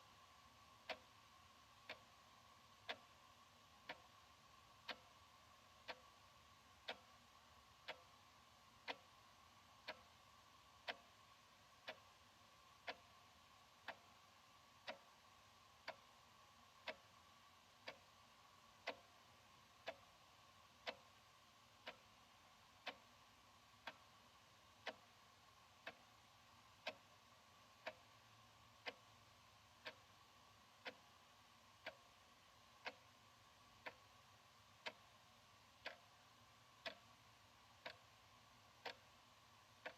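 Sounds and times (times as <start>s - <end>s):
faint steady hum: 0.0s - 39.9s
wall clock ticking: 0.0s - 39.9s.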